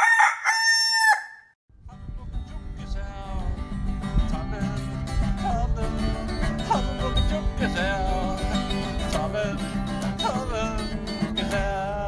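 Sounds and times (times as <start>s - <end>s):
country acoustic guitar music: 1.9s - 12.0s.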